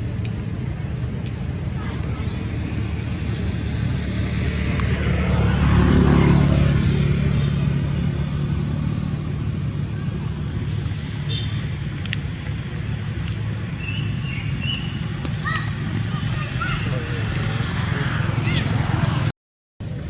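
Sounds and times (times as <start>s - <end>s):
vehicle engine passing: 0.0s - 19.3s.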